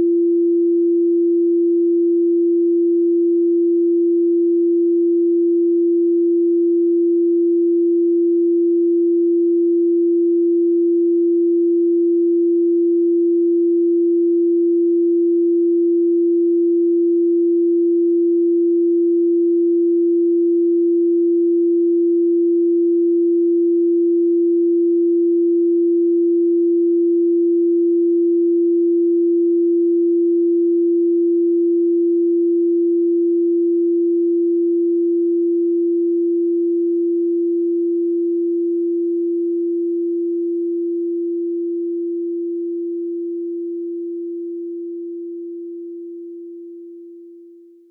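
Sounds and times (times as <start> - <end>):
pure sine tone: 0.0 - 47.9.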